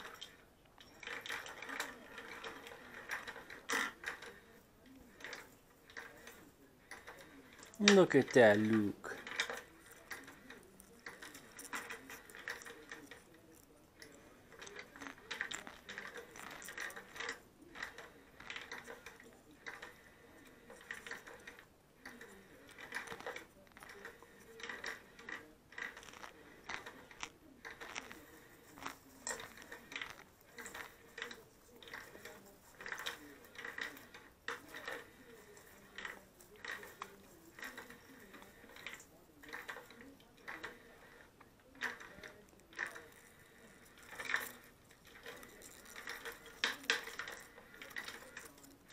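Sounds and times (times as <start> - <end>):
plastic cat toy clattering: 0.0 - 48.9.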